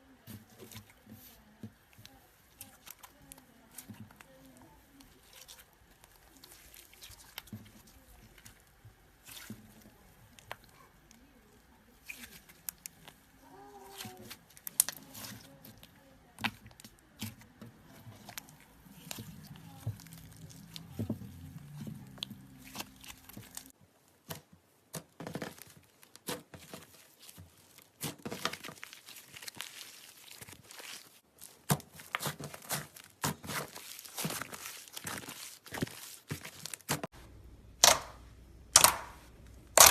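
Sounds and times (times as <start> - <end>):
slime clicking and crackling: 0.3 - 11.3, 11.9 - 23.7, 25.5 - 37.1, 37.8 - 39.9.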